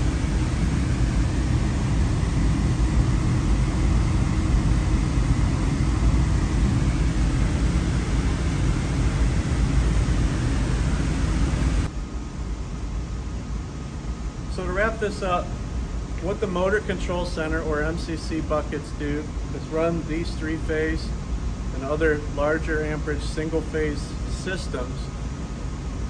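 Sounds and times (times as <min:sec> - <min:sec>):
machinery rumble and hiss: 0:00.0 - 0:26.0.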